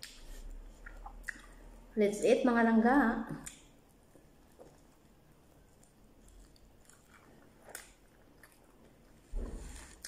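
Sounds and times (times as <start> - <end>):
faint chewing: 0.0 - 2.0, 3.3 - 10.0.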